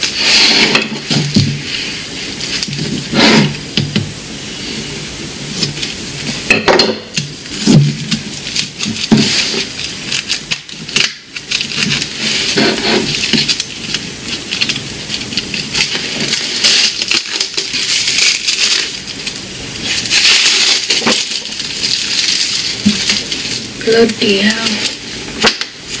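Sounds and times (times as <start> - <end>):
plastic wrapping crinkling: 0.0 - 26.0.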